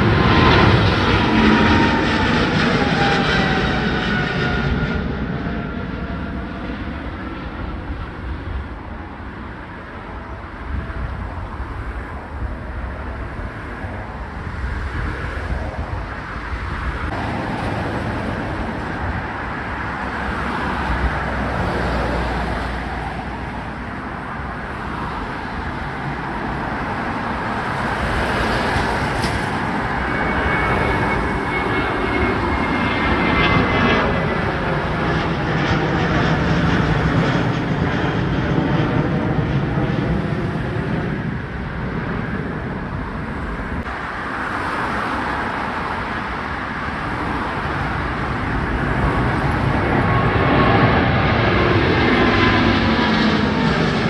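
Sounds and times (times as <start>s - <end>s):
jet engines at takeoff power: 0.0s - 54.0s.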